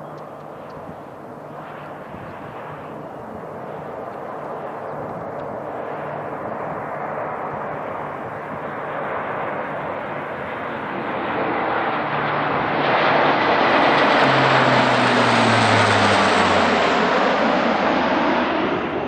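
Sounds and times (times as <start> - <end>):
low-flying aircraft engine rumble: 0.0 - 19.0.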